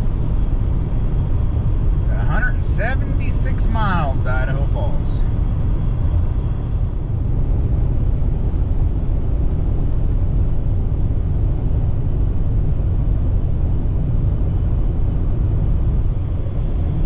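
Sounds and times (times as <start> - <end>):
truck driving at speed: 0.0 - 17.0.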